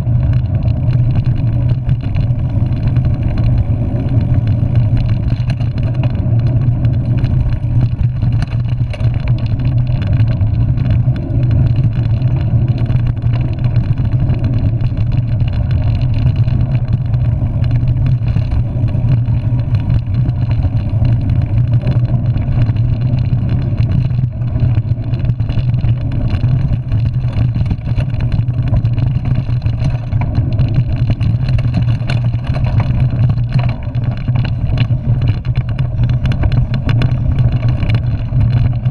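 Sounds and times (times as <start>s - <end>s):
bike rattling over bumps: 0.0s - 38.9s
wind and tyres rumbling: 0.0s - 38.9s.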